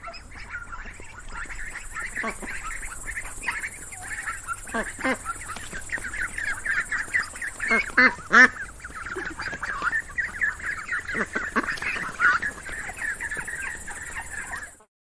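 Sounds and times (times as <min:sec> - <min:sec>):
young poultry peeping: 0:00.0 - 0:14.9.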